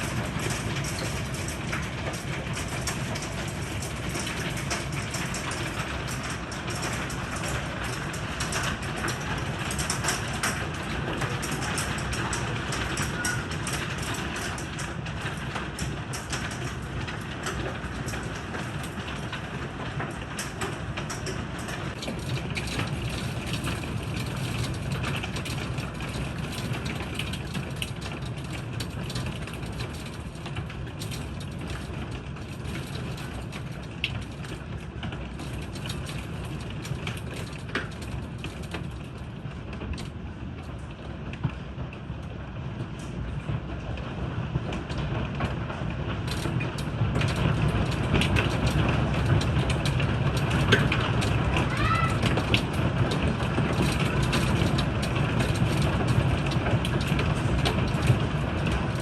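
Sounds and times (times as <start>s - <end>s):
hail ticking on hard surfaces: 0.0s - 59.0s.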